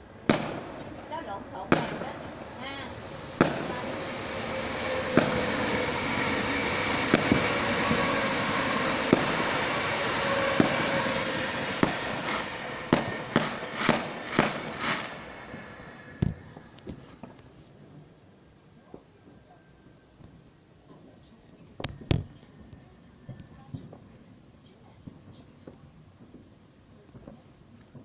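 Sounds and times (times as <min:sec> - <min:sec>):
fireworks bangs: 0:00.0 - 0:18.1, 0:20.1 - 0:28.0
fireworks crackling hiss: 0:00.0 - 0:19.2, 0:20.0 - 0:28.0.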